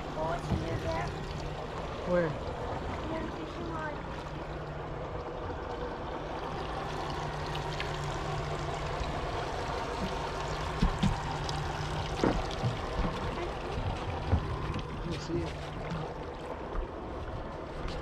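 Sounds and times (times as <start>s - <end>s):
steady low hum: 0.0s - 18.0s
water lapping against boat: 0.0s - 18.0s.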